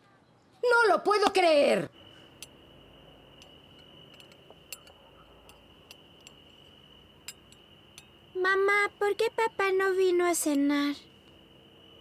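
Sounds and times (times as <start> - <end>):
crickets trilling: 0.6 - 12.0.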